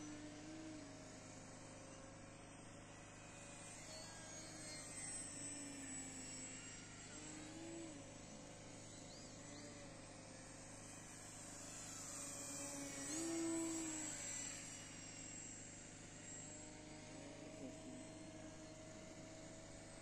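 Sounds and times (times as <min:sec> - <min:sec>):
model plane motor whine: 0:00.0 - 0:20.0.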